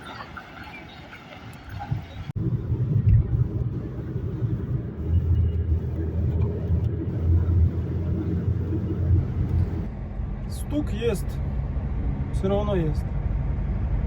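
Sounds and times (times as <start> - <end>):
van drivetrain and road rumble: 0.0 - 14.0.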